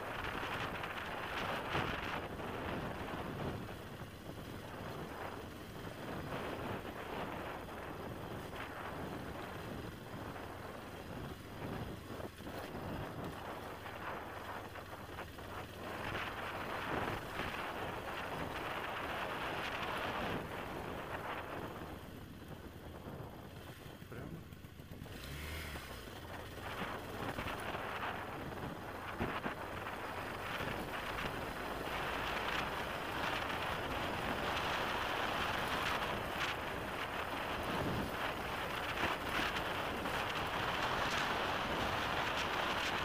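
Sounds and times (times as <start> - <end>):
motorcycle engine running: 0.0 - 43.0
tyres on dirt road: 0.0 - 43.0
wind rushing over microphone: 0.0 - 43.0.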